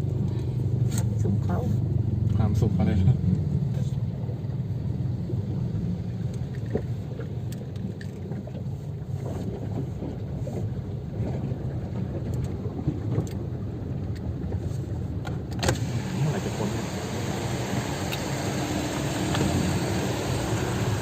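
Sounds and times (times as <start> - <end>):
car driving through floodwater: 0.0 - 21.0.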